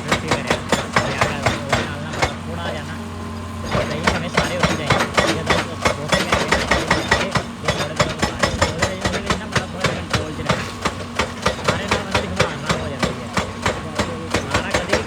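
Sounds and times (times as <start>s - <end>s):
diesel engine running: 0.0s - 15.0s
hydraulic rock breaker hammering: 0.0s - 15.0s.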